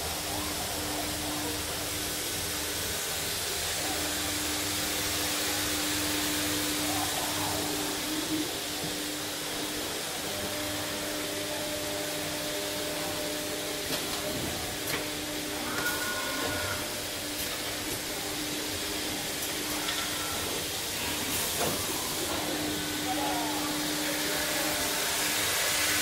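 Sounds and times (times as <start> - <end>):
machinery hiss with low hum: 0.0 - 26.0.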